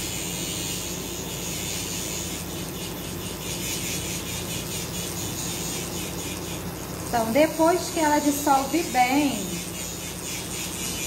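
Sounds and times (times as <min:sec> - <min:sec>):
handheld mixer whirring: 0:00.0 - 0:11.0.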